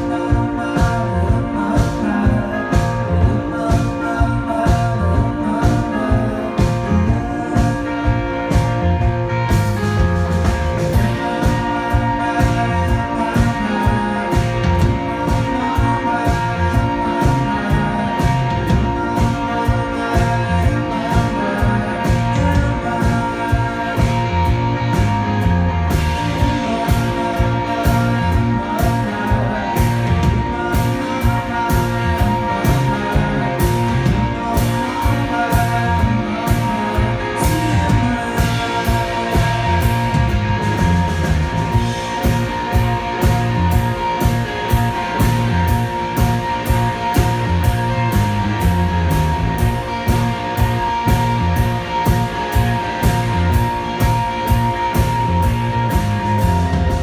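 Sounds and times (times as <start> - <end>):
rock band playing: 0.0 - 57.0
steady drum beat: 0.0 - 57.0
sustained guitar tones: 0.0 - 57.0.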